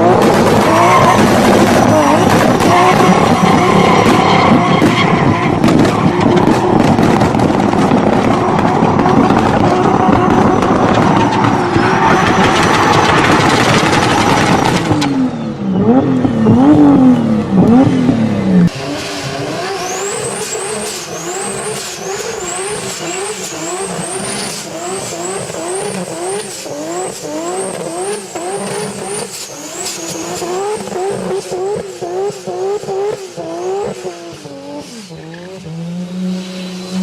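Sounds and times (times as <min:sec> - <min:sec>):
turbocharged car engine revving: 0:00.0 - 0:37.0.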